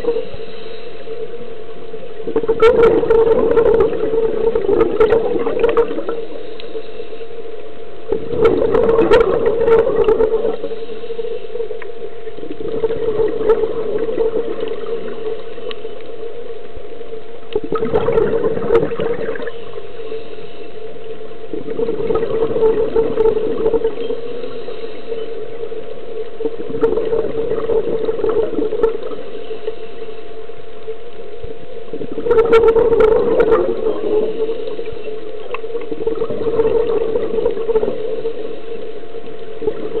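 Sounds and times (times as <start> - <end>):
bubbly exhaled air underwater: 0.0 - 0.8, 2.1 - 6.8, 8.0 - 20.3, 20.9 - 40.0
steady low hum: 0.0 - 40.0.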